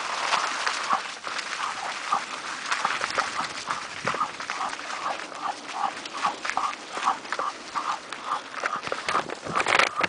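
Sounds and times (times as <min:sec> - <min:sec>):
dog panting: 0:00.9 - 0:10.0.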